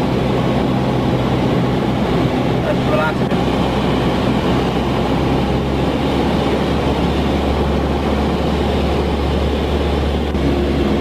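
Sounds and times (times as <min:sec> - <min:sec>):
aircraft engine and propeller droning: 0:00.0 - 0:11.0.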